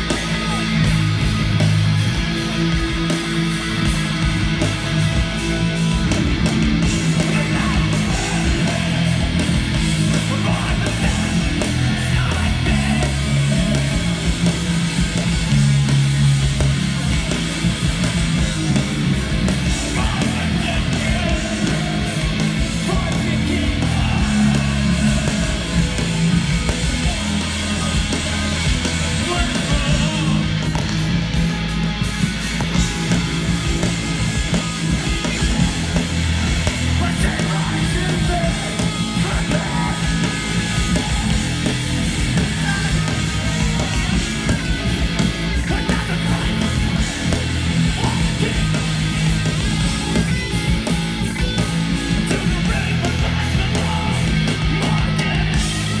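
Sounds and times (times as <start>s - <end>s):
bass guitar: 0.0s - 56.0s
distorted electric guitars: 0.0s - 56.0s
drums: 0.0s - 56.0s.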